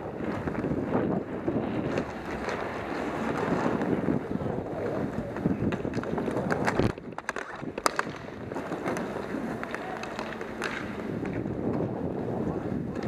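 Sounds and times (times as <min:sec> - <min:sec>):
wind rushing over microphone: 0:00.0 - 0:10.0, 0:10.8 - 0:13.0.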